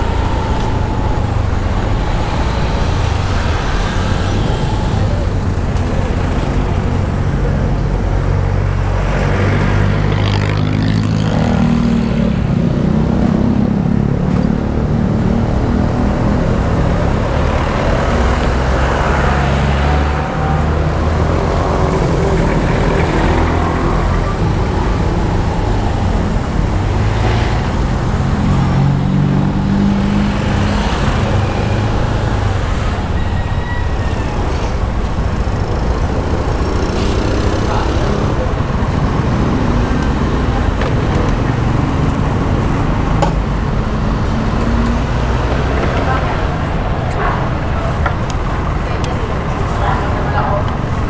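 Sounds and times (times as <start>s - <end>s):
street traffic: 0.0s - 51.0s.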